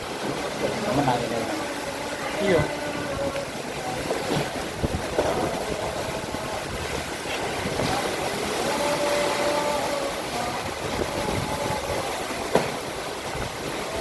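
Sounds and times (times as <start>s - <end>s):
heavy rain: 0.0s - 14.0s
strong wind: 1.6s - 14.0s.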